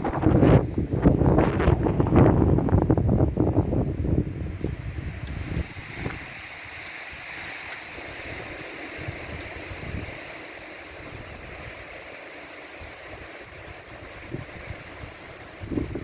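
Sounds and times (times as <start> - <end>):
strong wind rushing: 0.0 - 11.9, 12.8 - 16.0
wind buffeting microphone: 0.0 - 16.0.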